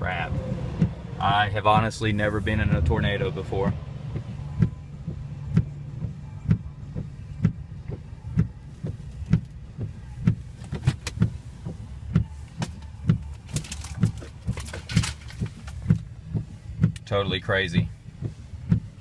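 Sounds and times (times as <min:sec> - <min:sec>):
truck engine idling: 0:00.0 - 0:19.0
regular thump: 0:00.2 - 0:17.2, 0:17.8 - 0:19.0.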